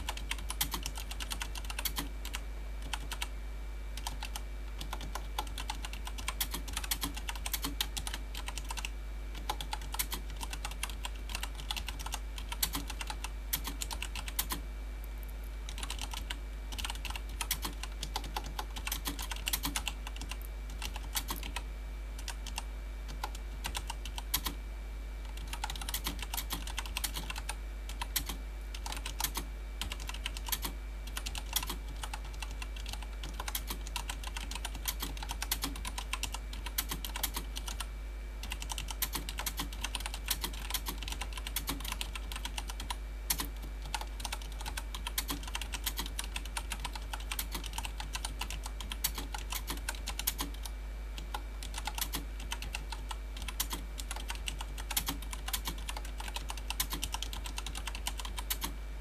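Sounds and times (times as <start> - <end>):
mechanical keyboard typing: 0.0 - 3.3, 4.0 - 14.6, 15.7 - 21.6, 22.2 - 24.6, 25.2 - 58.7.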